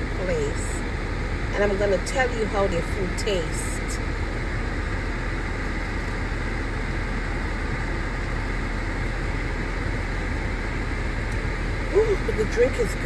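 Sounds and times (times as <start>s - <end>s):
car engine hum: 0.0s - 13.0s
car ventilation fan hiss: 0.0s - 13.0s.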